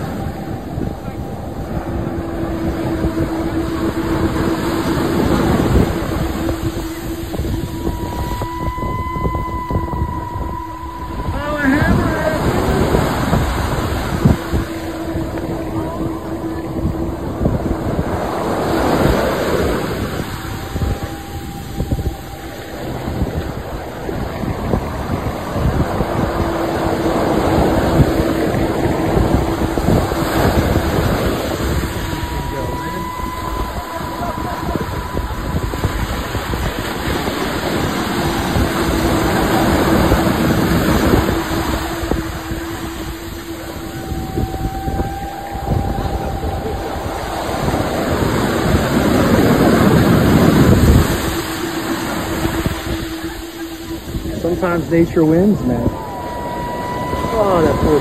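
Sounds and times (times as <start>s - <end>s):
ocean surf washing in: 0.0s - 58.0s
steady low hum: 0.0s - 58.0s
wave breaking: 0.0s - 58.0s
wind rumbling on microphone: 0.0s - 58.0s.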